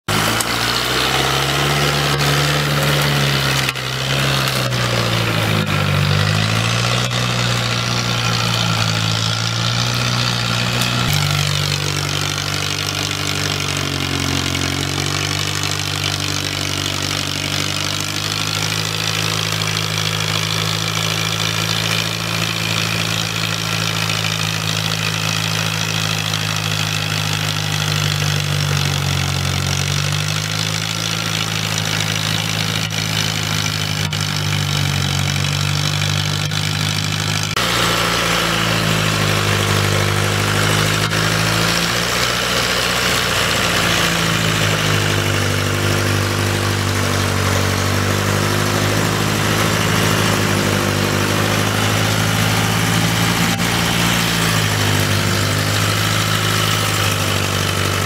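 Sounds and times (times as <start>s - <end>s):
truck engine running hard: 0.0s - 58.0s.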